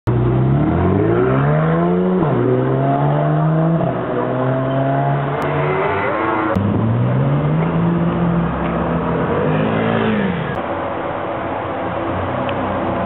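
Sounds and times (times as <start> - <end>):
sports car engine accelerating: 0.1 - 10.6.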